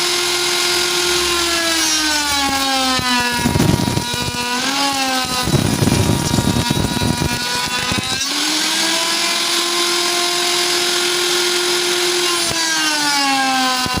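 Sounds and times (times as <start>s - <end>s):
router motor high whine: 0.0s - 14.0s
wood router cutting wood: 0.0s - 14.0s.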